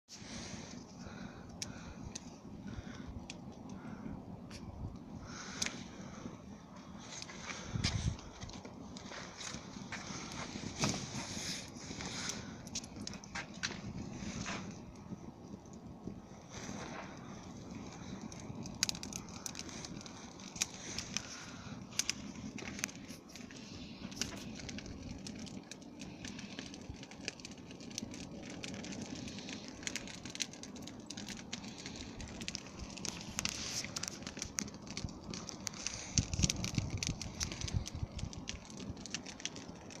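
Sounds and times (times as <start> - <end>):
campfire crackling: 0.1 - 40.0.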